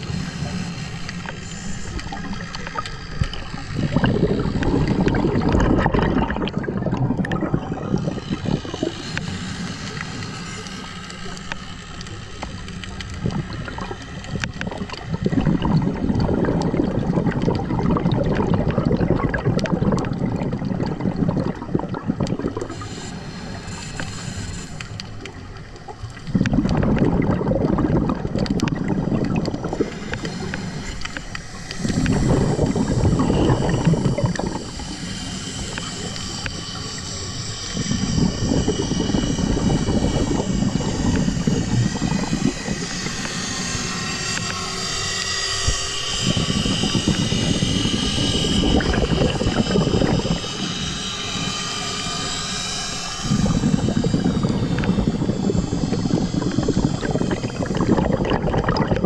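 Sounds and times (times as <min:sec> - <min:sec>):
underwater regulator breathing: 0:00.0 - 0:44.8, 0:45.6 - 0:59.0
air bubbles gurgling: 0:00.0 - 0:59.0.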